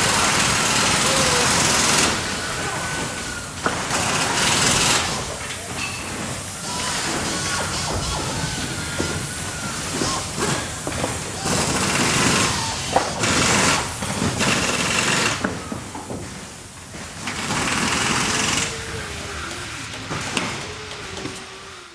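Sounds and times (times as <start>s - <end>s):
bursts of hissing: 0.0s - 21.9s
factory machines running: 0.0s - 21.9s.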